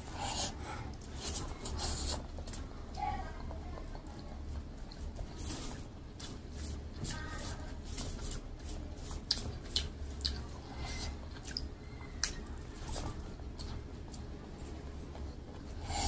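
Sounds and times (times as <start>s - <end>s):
wet squishing of hand mixing food: 0.0s - 16.0s.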